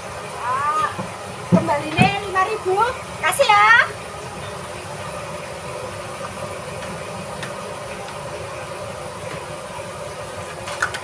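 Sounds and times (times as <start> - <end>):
kitchen hiss and hum: 0.0 - 11.0.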